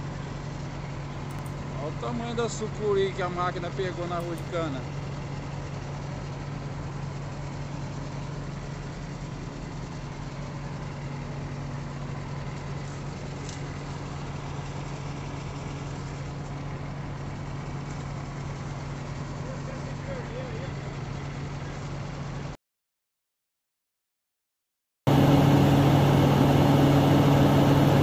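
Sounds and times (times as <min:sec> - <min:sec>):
large engine low drone: 0:00.0 - 0:22.6, 0:25.1 - 0:28.0.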